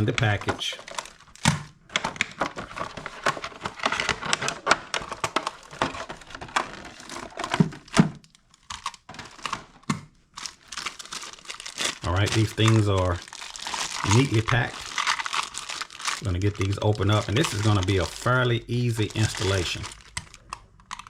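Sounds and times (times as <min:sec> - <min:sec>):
packaging clicks and crinkles: 0:00.0 - 0:21.0.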